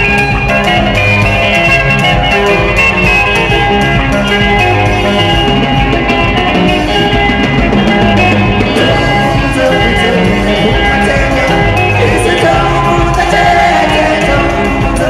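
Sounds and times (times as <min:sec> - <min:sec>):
bass guitar: 0:00.0 - 0:15.0
drum kit: 0:00.0 - 0:15.0
electric guitar: 0:00.0 - 0:15.0
live band music: 0:00.0 - 0:15.0.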